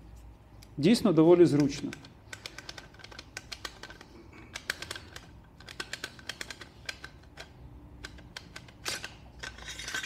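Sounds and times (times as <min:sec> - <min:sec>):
metal rifle parts clicking: 0:01.5 - 0:10.0.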